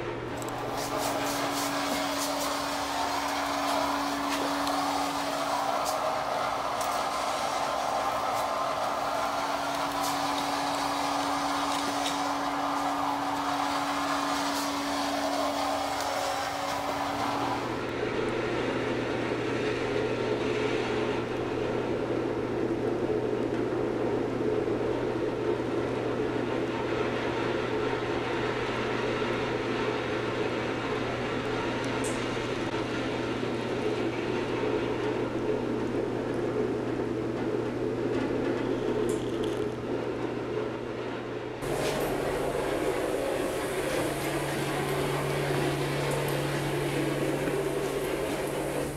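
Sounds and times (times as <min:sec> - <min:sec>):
mechanical hum with whirring: 0:00.0 - 0:48.9.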